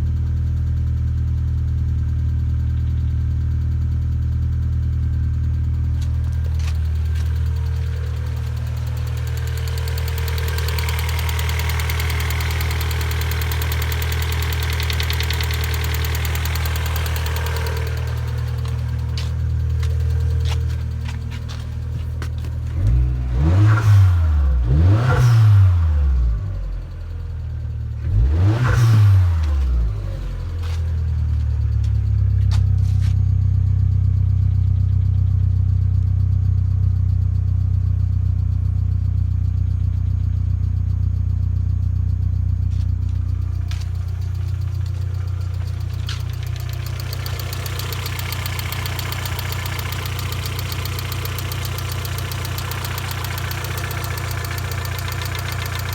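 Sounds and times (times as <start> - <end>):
car engine blipped and idling: 0.0 - 55.9.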